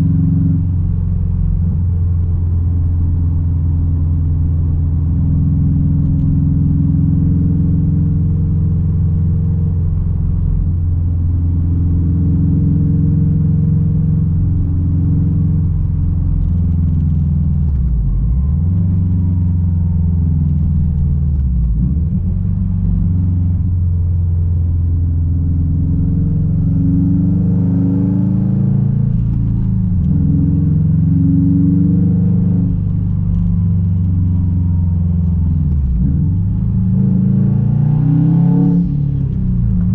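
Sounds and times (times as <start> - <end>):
loud car engine driving: 0.0 - 39.9.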